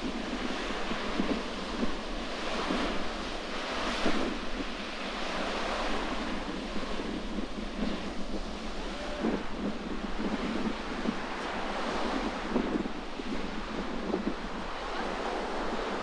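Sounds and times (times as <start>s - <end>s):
waves washing against shore: 0.0s - 16.0s
wind buffeting microphone: 0.0s - 16.0s.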